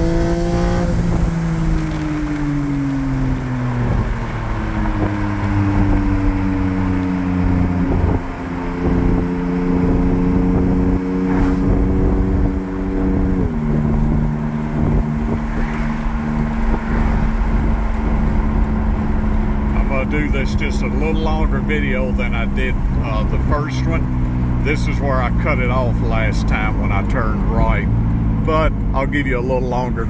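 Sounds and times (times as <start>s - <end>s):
car engine running: 0.0s - 30.0s
road and wind noise: 0.0s - 30.0s.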